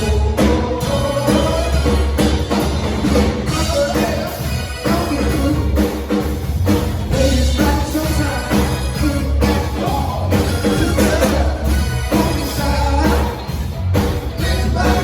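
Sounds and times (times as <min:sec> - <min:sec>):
drum kit: 0:00.0 - 0:15.0
heavy bass: 0:00.0 - 0:15.0
live band music: 0:00.0 - 0:15.0.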